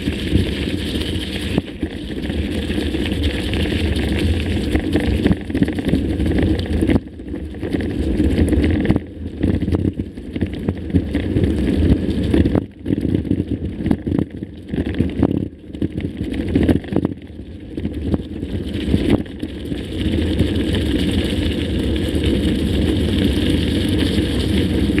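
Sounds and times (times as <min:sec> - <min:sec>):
bike rumbling and rattling: 0:00.0 - 0:25.0.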